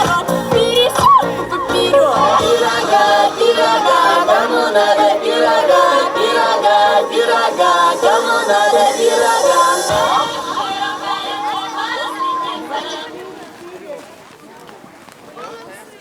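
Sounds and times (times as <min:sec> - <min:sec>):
choir singing unaccompanied: 0:00.0 - 0:14.0.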